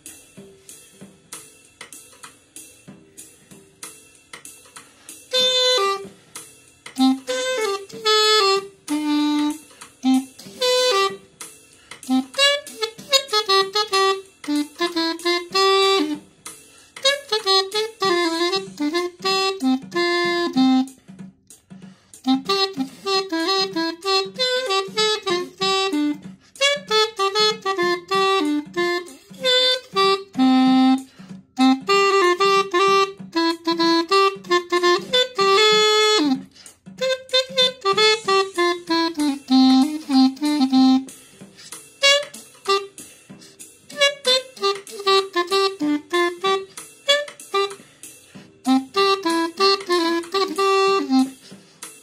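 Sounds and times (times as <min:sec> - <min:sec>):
backing beat: 0:00.0 - 0:52.0
clarinet playing melody: 0:05.2 - 0:06.3, 0:06.9 - 0:11.3, 0:12.0 - 0:16.3, 0:17.0 - 0:21.0, 0:22.2 - 0:47.8, 0:48.6 - 0:51.5.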